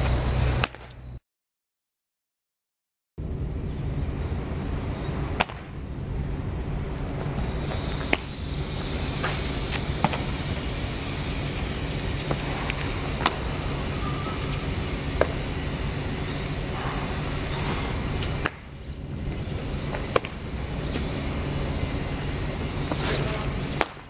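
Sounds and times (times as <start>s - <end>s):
steady low hum: 3.2s - 24.0s
wind noise: 3.2s - 24.0s.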